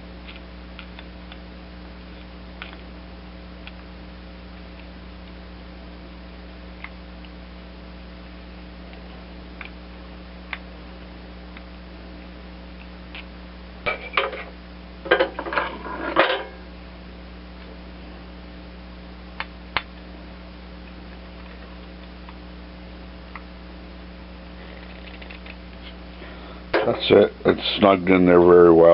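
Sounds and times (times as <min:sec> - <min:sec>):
faint electrical hum: 0:00.0 - 0:28.9.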